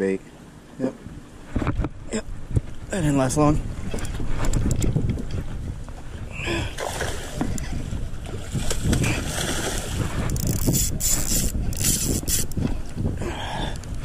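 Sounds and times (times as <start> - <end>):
wind buffeting microphone: 1.0 - 14.0.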